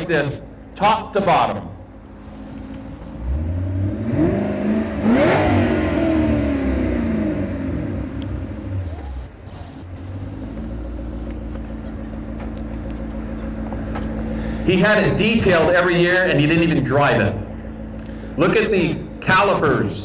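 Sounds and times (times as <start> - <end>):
car engine revving and idling: 1.8 - 20.0.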